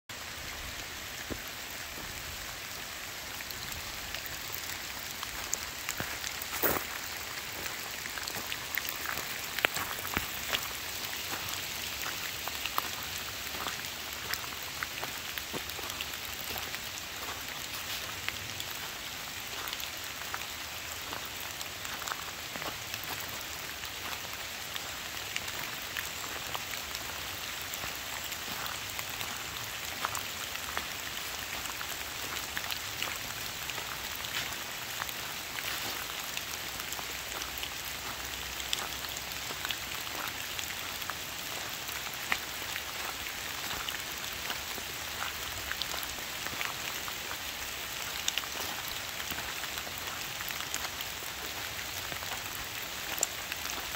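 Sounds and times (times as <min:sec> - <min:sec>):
rain on leaves and gravel: 0:00.1 - 0:53.9.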